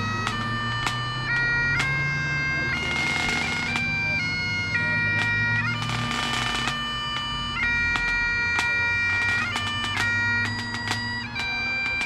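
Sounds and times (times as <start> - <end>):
bagpipes playing a tune: 0.0 - 12.0.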